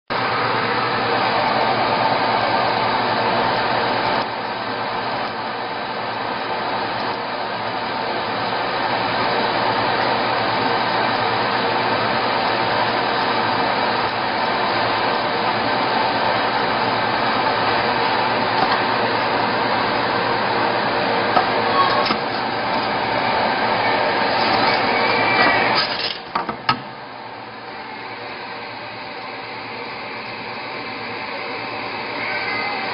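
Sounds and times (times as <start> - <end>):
laser marking machine whirring hum: 0.1 - 32.9.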